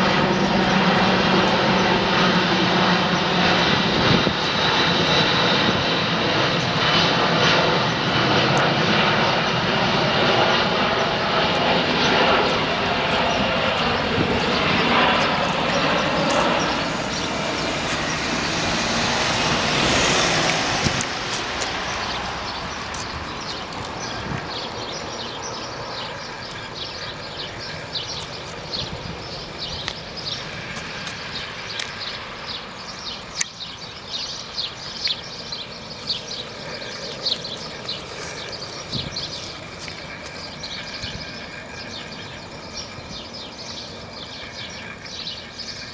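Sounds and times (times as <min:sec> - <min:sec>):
jet aircraft noise: 0:00.0 - 0:45.9.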